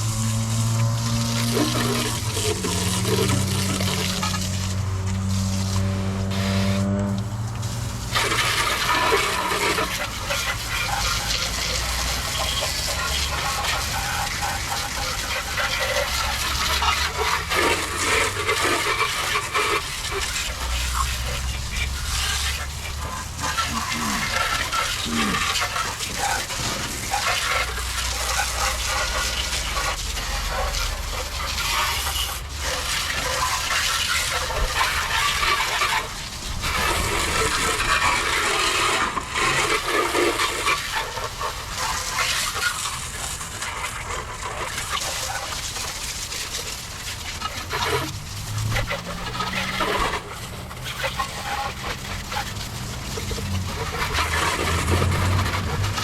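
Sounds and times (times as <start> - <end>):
water splashing and running: 0.0 - 56.0.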